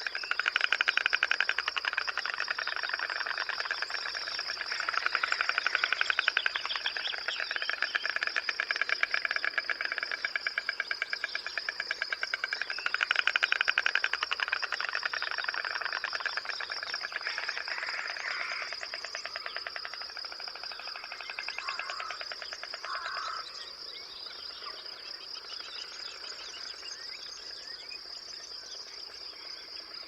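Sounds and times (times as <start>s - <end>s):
high-pitched insect trill: 0.0s - 30.0s.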